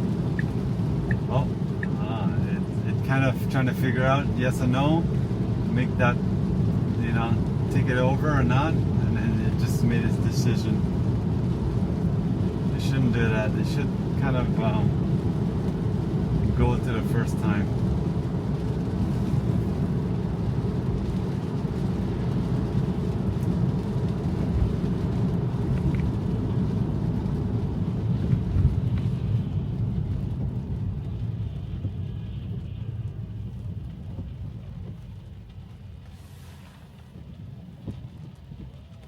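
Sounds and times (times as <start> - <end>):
tyre and road noise in cabin: 0.0 - 39.0.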